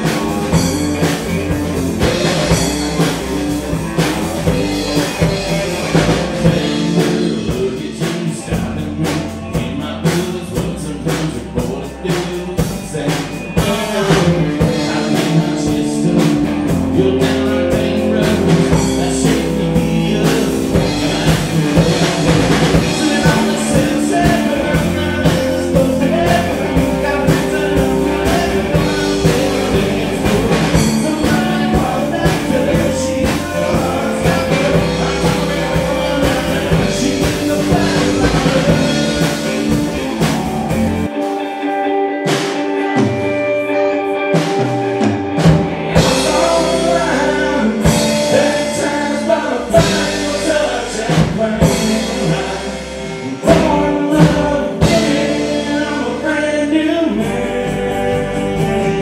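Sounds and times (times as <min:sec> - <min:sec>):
country-rock band playing: 0:00.0 - 0:59.0
lead singer singing: 0:00.0 - 0:59.0.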